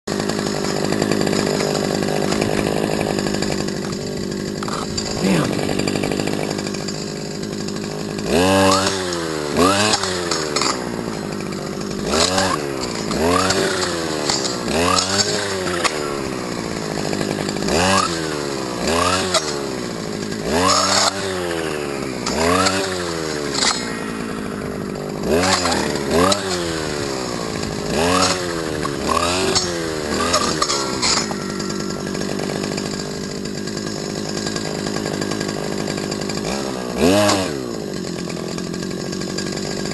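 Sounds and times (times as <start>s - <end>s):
brushcutter engine revving: 0.0s - 39.9s.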